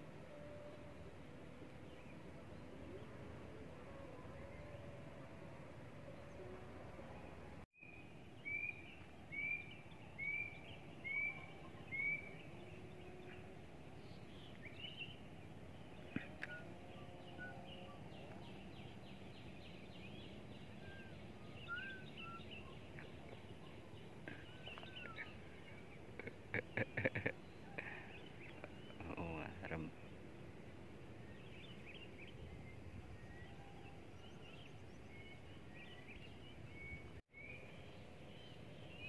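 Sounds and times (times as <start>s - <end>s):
steady background hiss: 0.0s - 39.0s
birds chirping: 7.2s - 39.0s.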